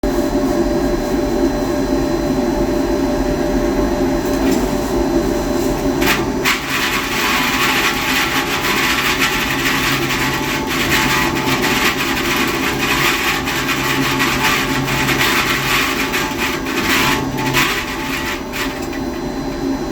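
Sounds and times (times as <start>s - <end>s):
stuffing blower machine running: 3.8s - 19.9s.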